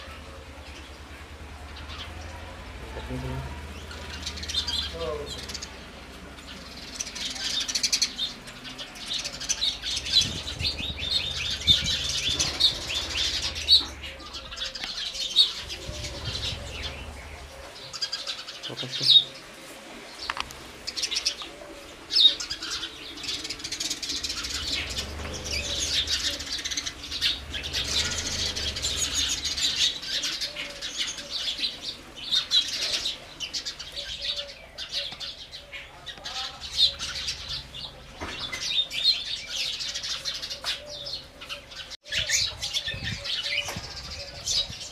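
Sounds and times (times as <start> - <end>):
sparrows chirping: 0.0 - 44.9.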